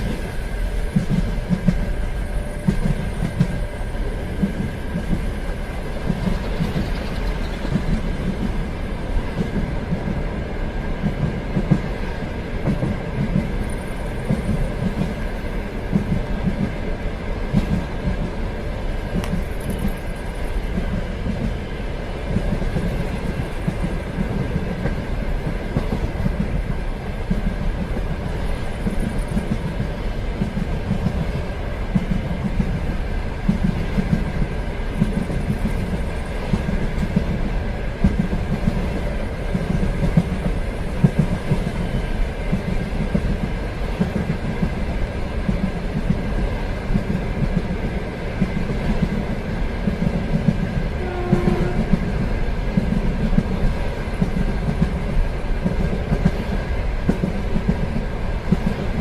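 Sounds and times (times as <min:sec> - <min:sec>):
clickety-clack of train wheels: 0:00.0 - 0:59.0
train rumbling on rails: 0:00.0 - 0:59.0.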